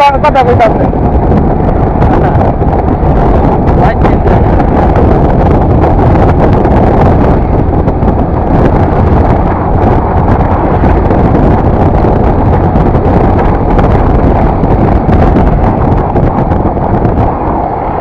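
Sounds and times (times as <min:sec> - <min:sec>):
motorcycle rumble: 0:00.0 - 0:18.0
road noise: 0:00.0 - 0:18.0
wind rushing over microphone: 0:00.0 - 0:18.0.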